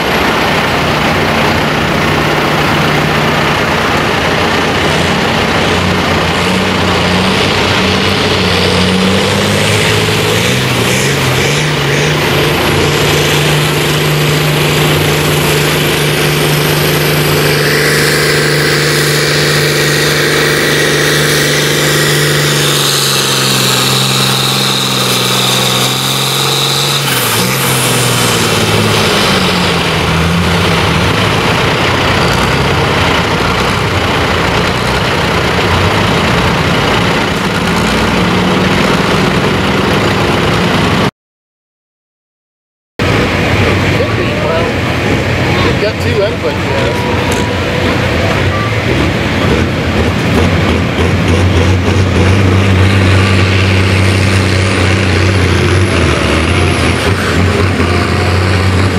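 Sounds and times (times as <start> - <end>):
high whine: 0.0 - 41.1, 43.0 - 58.9
tractor engine at full throttle: 0.0 - 41.1, 43.0 - 58.9.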